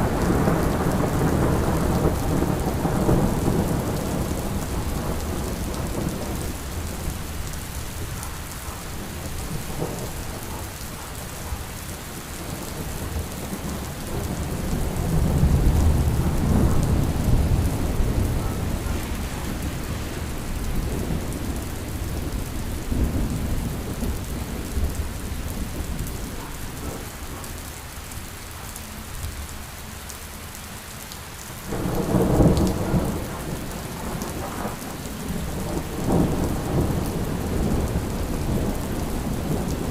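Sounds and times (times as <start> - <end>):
thunder rumbling: 0.0 - 27.5, 31.7 - 39.9
steady rain: 0.0 - 39.9.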